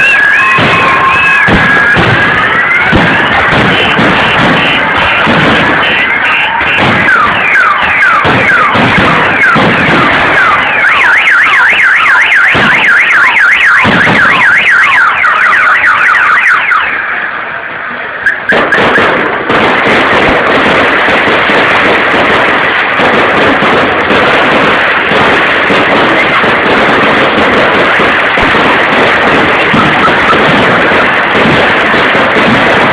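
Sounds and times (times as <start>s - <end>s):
dense firework crackling: 0.0s - 32.9s
firework bangs: 0.0s - 32.9s
whistling fireworks: 0.0s - 32.9s.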